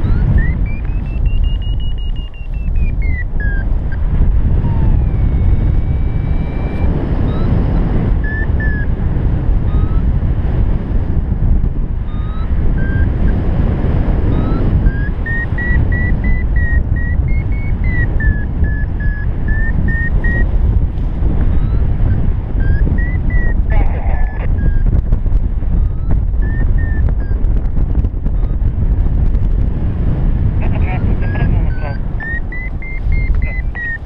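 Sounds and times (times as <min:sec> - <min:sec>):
variometer beeping: 0:00.0 - 0:10.7, 0:11.7 - 0:29.6, 0:30.6 - 0:34.0
wind rushing over microphone: 0:00.0 - 0:34.0.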